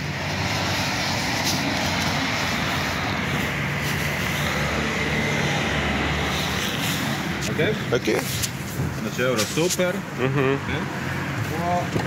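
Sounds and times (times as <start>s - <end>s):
street noise: 0.0s - 12.0s
vehicle engine droning: 0.0s - 12.0s.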